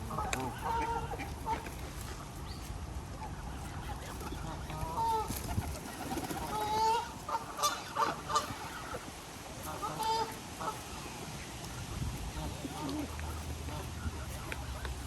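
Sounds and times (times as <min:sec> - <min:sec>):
geese honking: 0:00.0 - 0:15.0
low outdoor rumble: 0:00.0 - 0:15.0.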